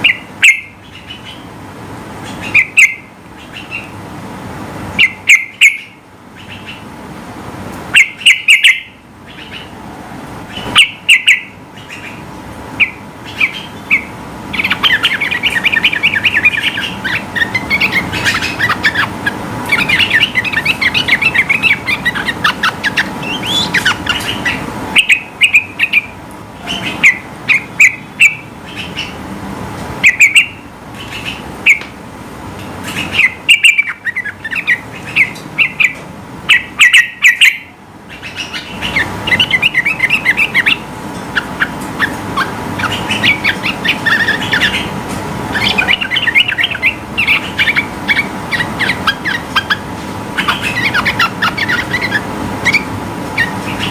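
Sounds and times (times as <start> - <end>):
bird singing chirping notes: 0.0 - 1.5, 2.2 - 4.0, 5.0 - 6.9, 8.0 - 9.7, 10.5 - 12.2, 12.8 - 29.2, 30.0 - 31.8, 32.8 - 44.9, 45.5 - 49.8, 50.4 - 53.9
faint steady hum: 0.0 - 53.9.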